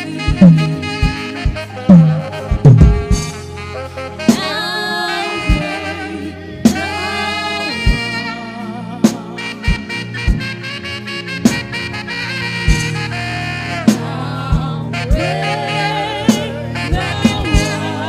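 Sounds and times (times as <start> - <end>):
live worship band music: 0.0 - 18.0.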